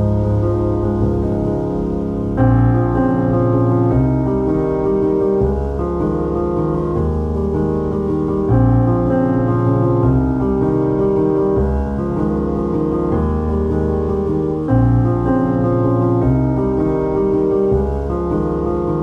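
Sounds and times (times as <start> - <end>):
piano chords over bass notes: 0.0 - 19.0.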